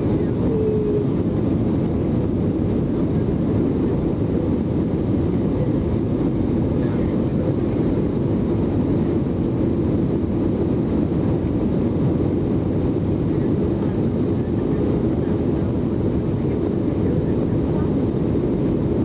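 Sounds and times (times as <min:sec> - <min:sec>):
aircraft cabin engine and airflow rush: 0:00.0 - 0:19.0.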